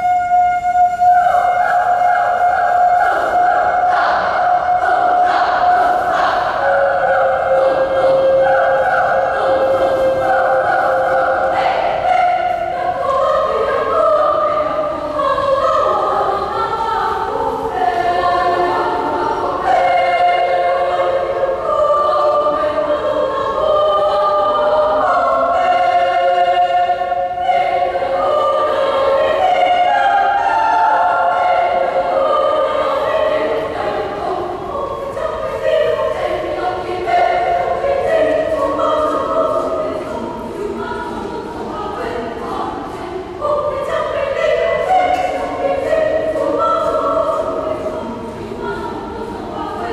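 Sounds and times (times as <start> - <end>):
choir singing folk song: 0.0 - 49.9.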